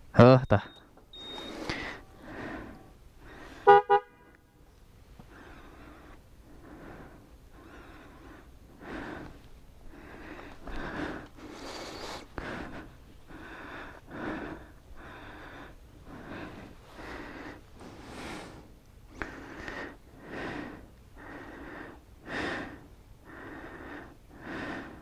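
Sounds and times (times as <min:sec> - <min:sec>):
person breathing in a helmet: 0:01.2 - 0:03.7, 0:05.2 - 0:25.0.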